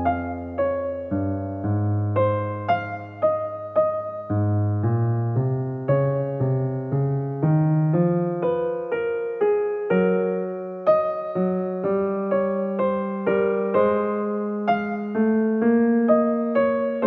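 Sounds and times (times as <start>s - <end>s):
gentle keyboard melody: 0.0s - 17.0s.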